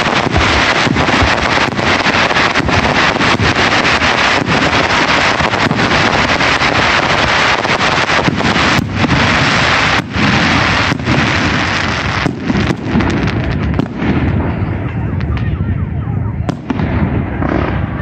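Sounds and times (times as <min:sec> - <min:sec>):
fireworks crackling and rumbling: 0:00.0 - 0:18.0.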